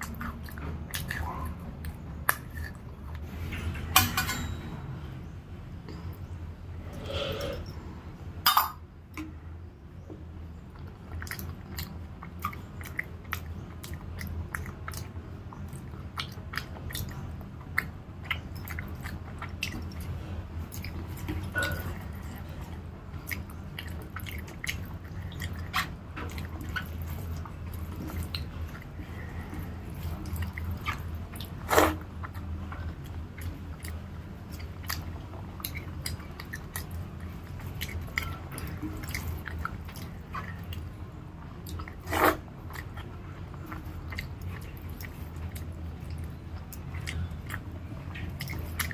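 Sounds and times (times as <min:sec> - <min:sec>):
person chewing food: 0:00.0 - 0:03.5, 0:10.1 - 0:48.9
steady low hum: 0:00.0 - 0:48.9.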